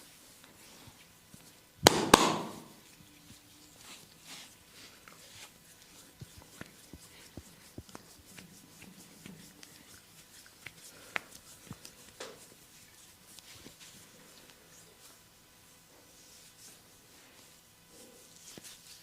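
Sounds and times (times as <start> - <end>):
hands rubbing skin: 0.3 - 15.3, 16.0 - 19.0.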